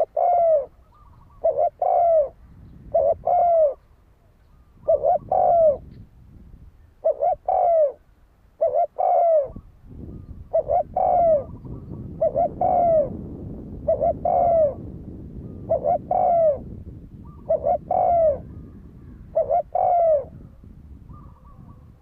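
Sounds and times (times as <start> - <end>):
dove cooing: 0.0 - 6.0, 6.9 - 22.0.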